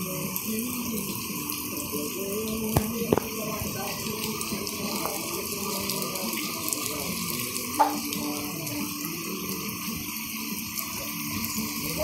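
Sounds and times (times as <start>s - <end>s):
heavy rain hissing: 0.0s - 12.0s
running water: 0.0s - 12.0s.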